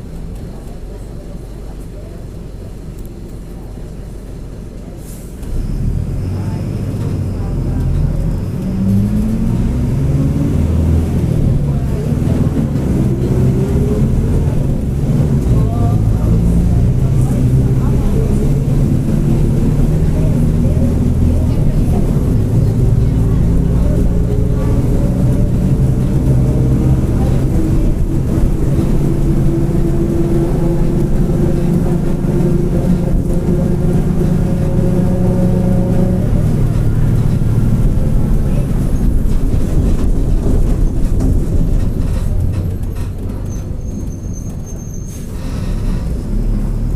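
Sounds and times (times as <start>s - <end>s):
bus diesel engine rumble: 0.0s - 46.9s.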